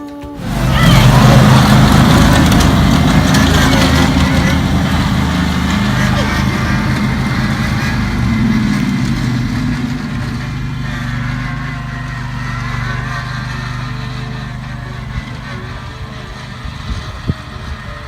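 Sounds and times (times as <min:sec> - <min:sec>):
riding lawn mower engine: 0:00.0 - 0:18.0.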